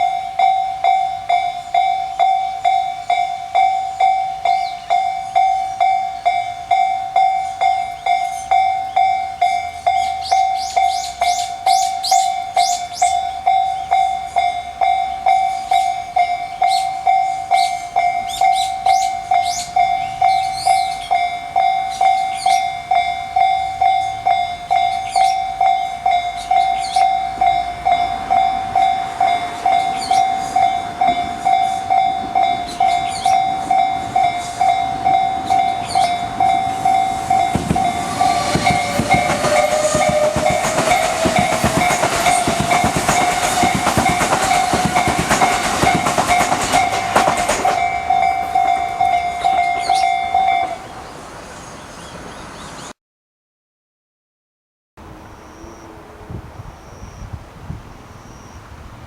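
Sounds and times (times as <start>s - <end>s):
level-crossing electronic bell ringing: 0.0s - 51.0s
train passing with wheel clatter: 0.0s - 52.9s, 55.0s - 59.0s.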